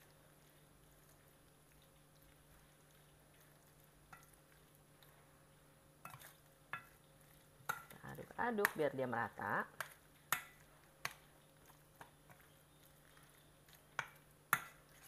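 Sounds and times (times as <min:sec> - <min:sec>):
hand mixing wet meat in a bowl: 0:00.0 - 0:15.0.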